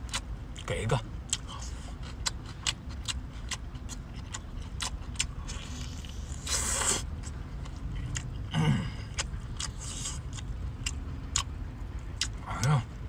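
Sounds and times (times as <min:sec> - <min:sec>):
man chewing with wet smacks: 0:00.0 - 0:13.0.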